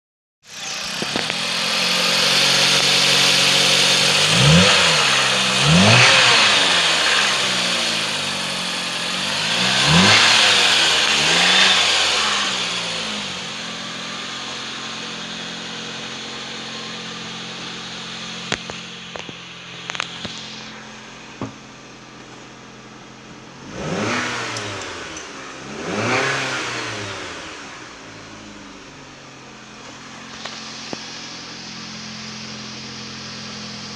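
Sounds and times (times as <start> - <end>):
car engine revving and idling: 0.4 - 33.9.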